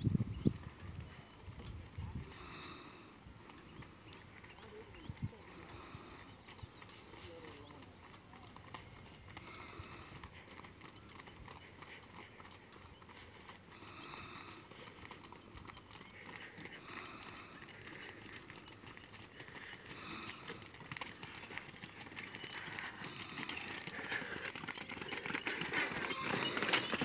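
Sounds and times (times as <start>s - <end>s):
hooves clip-clopping on asphalt: 0.1s - 27.0s.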